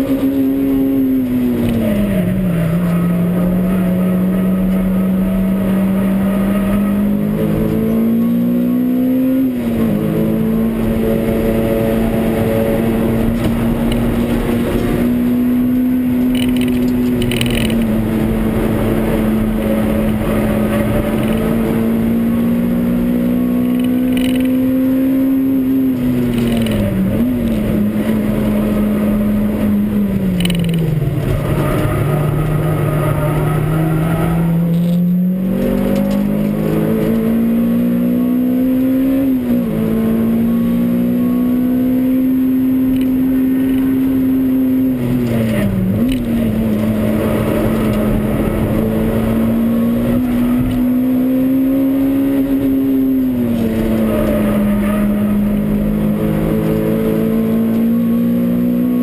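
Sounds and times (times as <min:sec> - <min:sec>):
car engine at high revs: 0:00.0 - 0:59.0.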